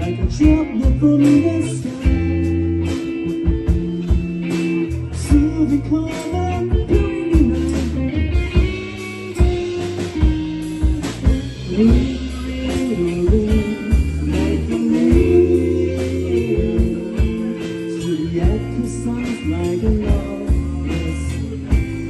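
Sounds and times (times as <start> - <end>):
bass guitar: 0.0 - 22.0
drum kit: 0.0 - 22.0
guitar: 0.0 - 22.0.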